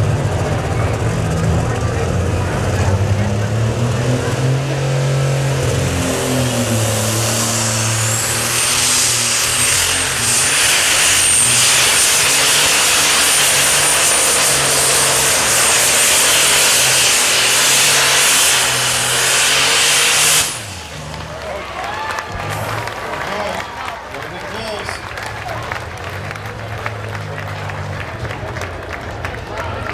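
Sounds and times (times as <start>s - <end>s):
high turbo whine: 0.0s - 29.9s
pulling tractor engine at full power: 0.0s - 29.9s.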